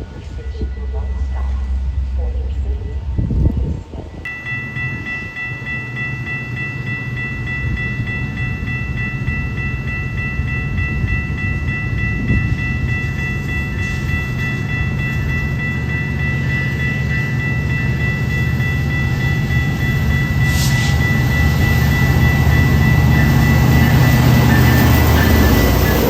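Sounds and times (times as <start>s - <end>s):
low rumble of train: 0.0s - 26.0s
crossing bell ringing rapidly: 4.2s - 26.0s.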